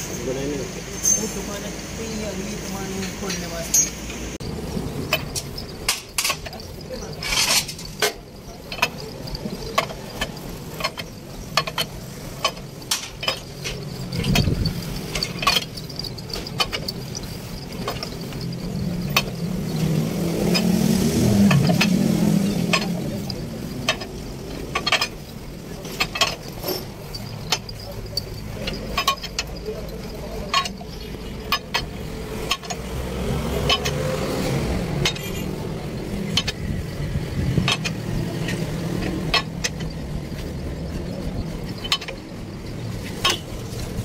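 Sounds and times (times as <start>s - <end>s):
metallic clicks of hand tools: 5.0s - 40.8s.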